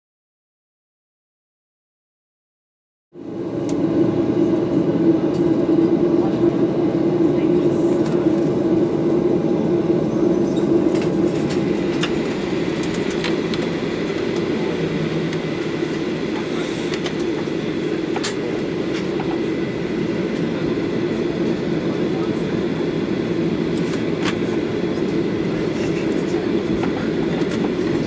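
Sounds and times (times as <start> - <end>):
airframe rumble: 3.2 - 28.0
jet engines idling: 3.2 - 28.0.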